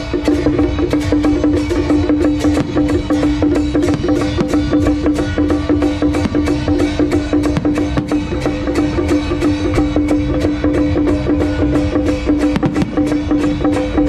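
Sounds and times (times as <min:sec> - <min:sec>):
fast percussion beat: 0:00.0 - 0:14.0.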